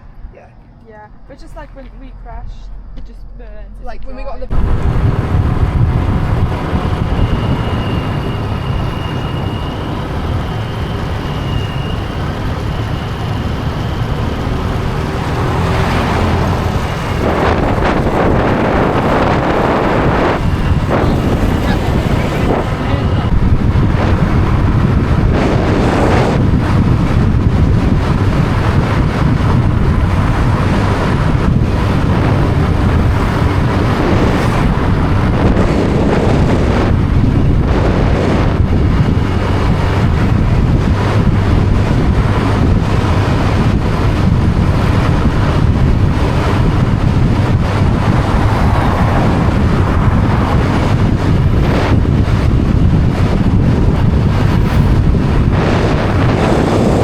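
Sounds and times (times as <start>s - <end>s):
steady low drone: 0.0s - 57.0s
wind buffeting microphone: 0.0s - 57.0s.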